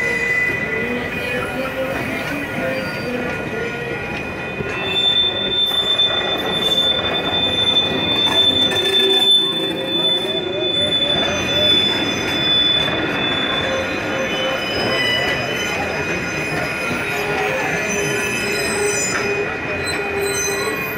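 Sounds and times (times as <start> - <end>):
rumble of rolling train cars: 0.0 - 20.9
train wheels squealing on rails: 0.0 - 20.9.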